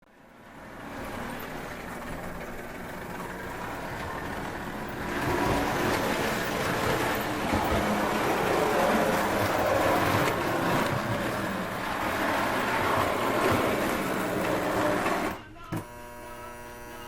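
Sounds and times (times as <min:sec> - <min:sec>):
model train mechanical rumble: 0:00.1 - 0:17.0.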